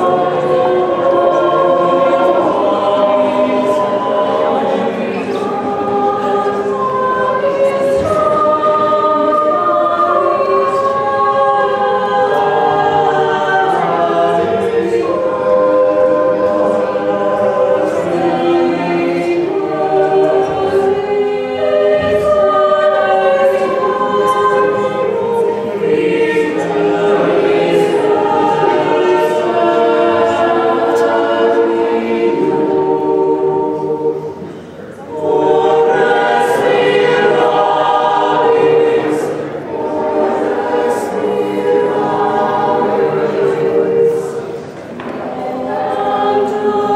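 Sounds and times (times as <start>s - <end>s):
mixed choir singing: 0.0s - 46.9s.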